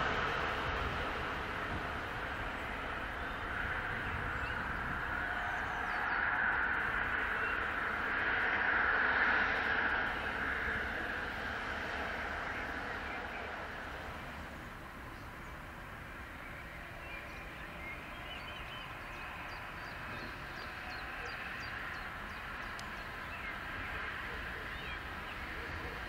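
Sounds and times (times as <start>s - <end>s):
distant train: 0.0s - 26.0s
road traffic: 0.0s - 26.0s.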